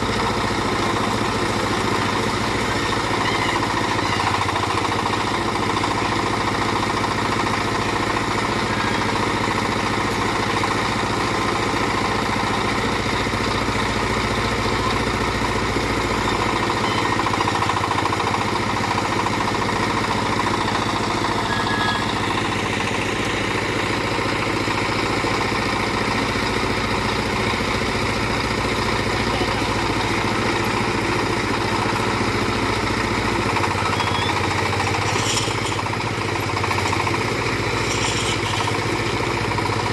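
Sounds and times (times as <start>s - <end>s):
backhoe engine droning: 0.0s - 39.9s.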